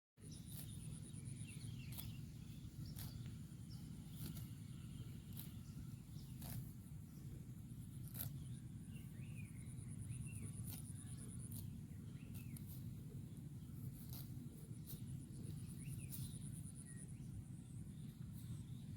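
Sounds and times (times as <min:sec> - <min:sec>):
cow tearing grass: 0:00.2 - 0:09.4, 0:10.1 - 0:16.6
bird chirps: 0:00.2 - 0:18.9
steady low rumble: 0:00.2 - 0:18.9.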